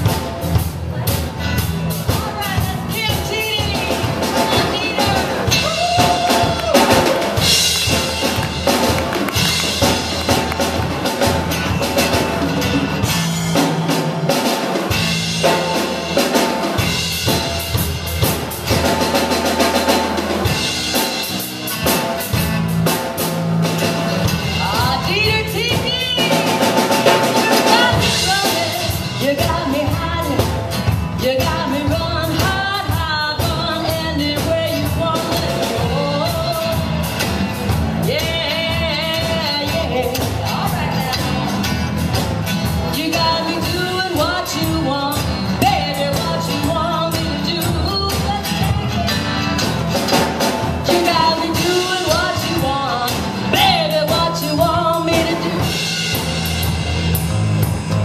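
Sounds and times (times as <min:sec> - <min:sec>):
acoustic guitar: 0:00.0 - 0:58.0
drum kit steady beat: 0:00.0 - 0:58.0
electric bass: 0:00.0 - 0:58.0.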